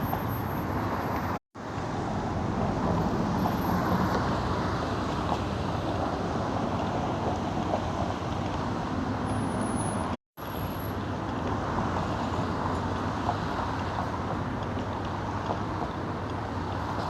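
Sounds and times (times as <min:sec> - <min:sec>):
highway traffic rumble: 0:00.0 - 0:17.0.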